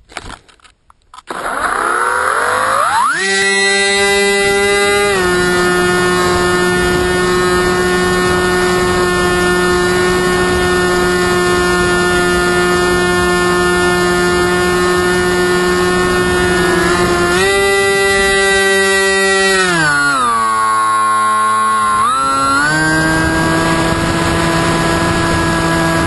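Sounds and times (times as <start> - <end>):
electric motor propeller whine: 1.2 - 26.0.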